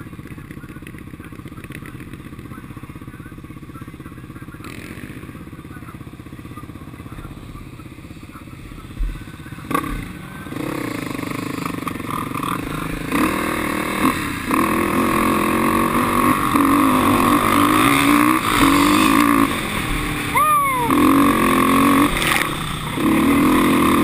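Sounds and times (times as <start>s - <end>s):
quad engine revving: 4.1s - 24.0s.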